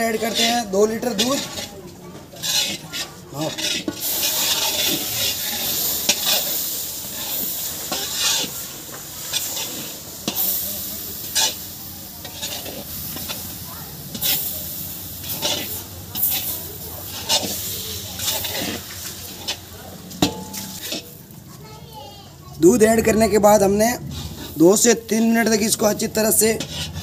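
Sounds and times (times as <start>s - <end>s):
metal spatula scraping pan: 0.0s - 21.3s, 24.0s - 27.0s
steady sizzle: 0.0s - 27.0s.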